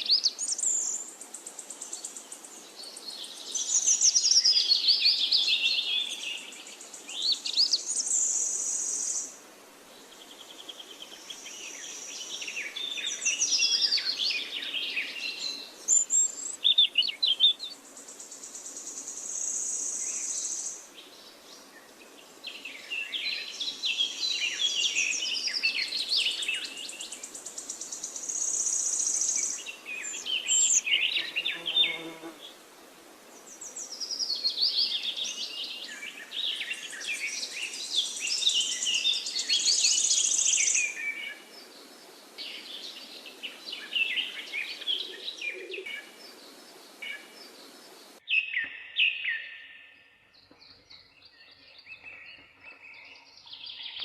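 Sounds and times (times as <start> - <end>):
birds singing and chirping: 0.0 - 9.3, 10.3 - 32.4, 33.4 - 54.0
steady background hiss: 0.0 - 48.3.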